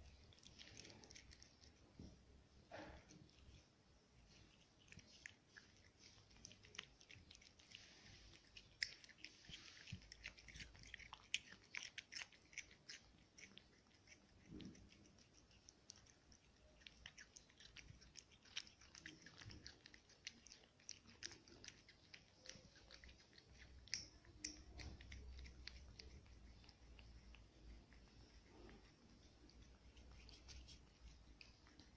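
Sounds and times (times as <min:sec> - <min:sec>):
cat chewing wet food: 0:00.0 - 0:31.9.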